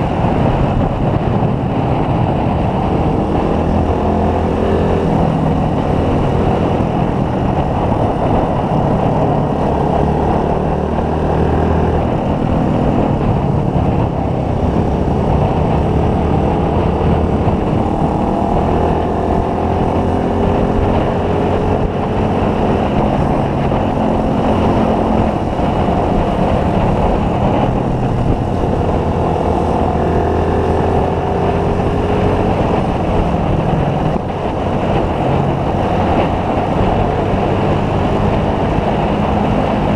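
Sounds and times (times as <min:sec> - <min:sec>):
constant rushing noise: 0:00.0 - 0:39.9
motorcycle engine cruising: 0:00.0 - 0:39.9.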